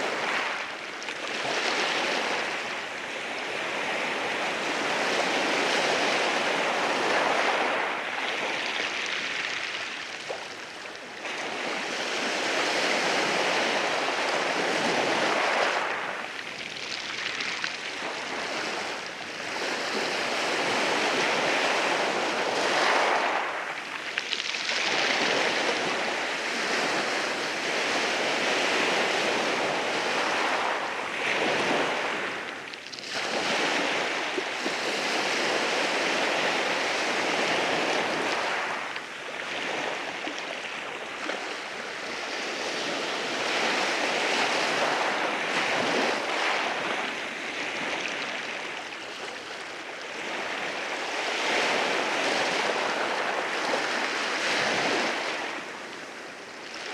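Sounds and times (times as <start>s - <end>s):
sea waves over rocks: 0.0s - 56.9s.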